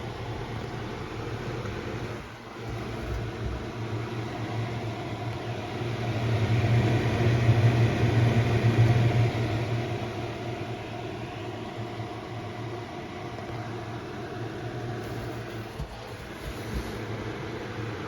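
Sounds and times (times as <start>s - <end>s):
box fan running: 0.0s - 18.0s.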